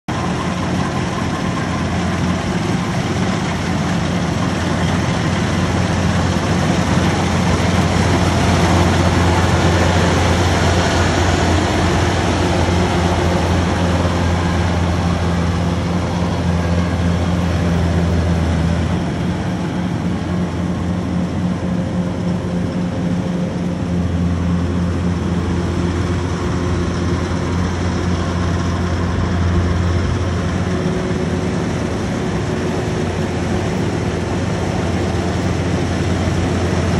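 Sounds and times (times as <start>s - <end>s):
combine harvester diesel engine: 0.0s - 36.9s.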